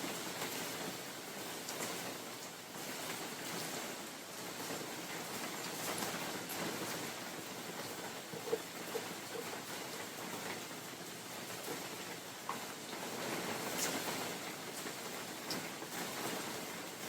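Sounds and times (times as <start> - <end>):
rain falling through forest: 0.0 - 17.0
wind: 0.0 - 17.0.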